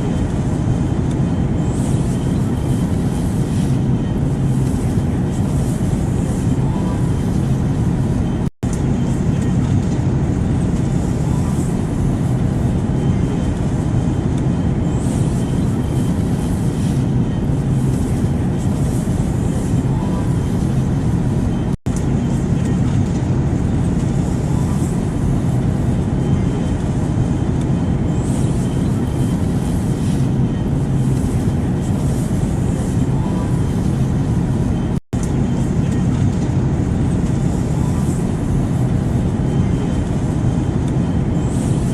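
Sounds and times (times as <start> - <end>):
airplane rumble: 0.0 - 41.9
faint hum and hiss: 0.0 - 41.9.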